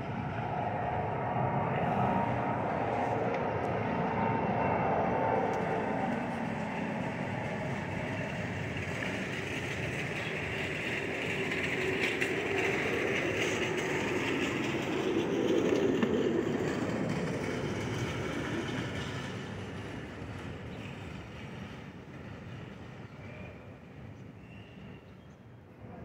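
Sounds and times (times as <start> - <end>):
jet airliner engine roar: 0.0 - 26.0.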